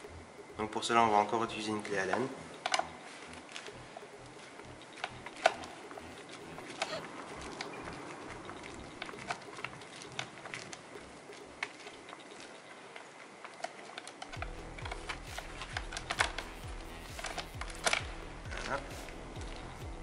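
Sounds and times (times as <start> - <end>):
music: 0.0 - 12.1, 14.3 - 20.0.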